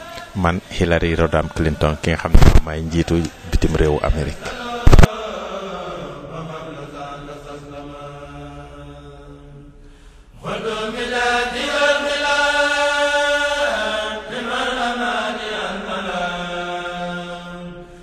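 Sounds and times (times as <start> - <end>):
religious chanting held notes: 0.0 - 18.0.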